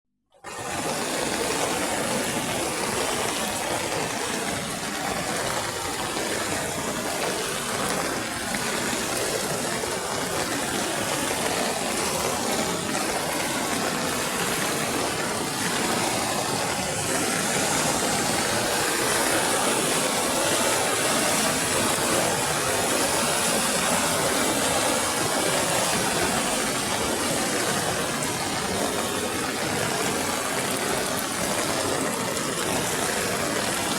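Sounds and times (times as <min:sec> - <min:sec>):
water rushing: 0:00.4 - 0:33.9.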